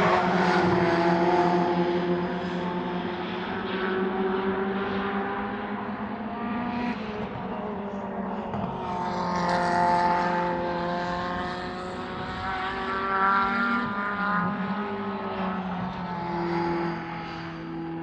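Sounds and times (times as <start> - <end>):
race car engines running: 0.0 - 18.0.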